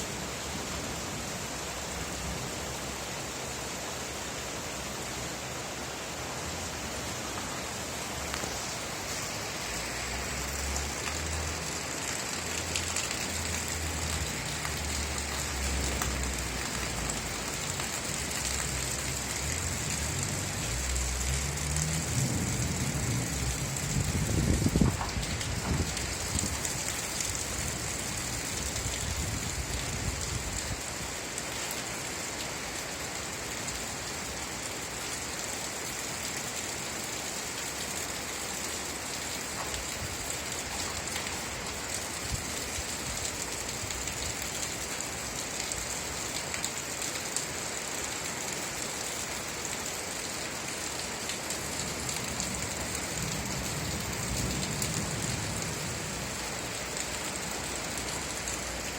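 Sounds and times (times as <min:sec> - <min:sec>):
steady rain pattering: 0:00.0 - 0:58.9.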